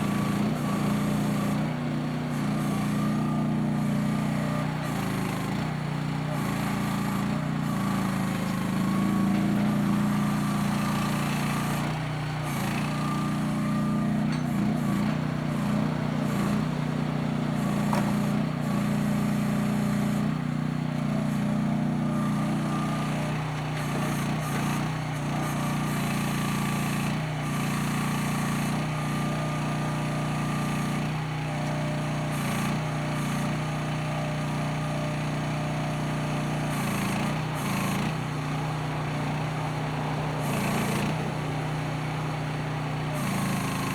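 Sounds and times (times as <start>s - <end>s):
excavator engine running: 0.0s - 33.2s, 33.8s - 43.9s.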